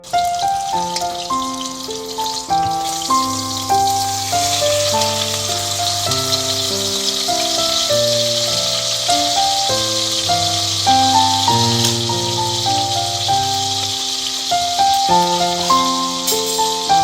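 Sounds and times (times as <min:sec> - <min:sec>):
steak sizzling in a pan: 0:00.0 - 0:17.0.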